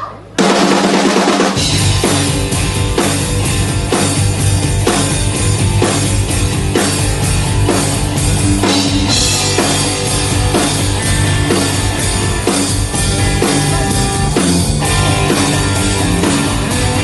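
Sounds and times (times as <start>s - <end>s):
rock band playing: 0.2s - 17.0s
strong drum hits: 0.4s - 17.0s.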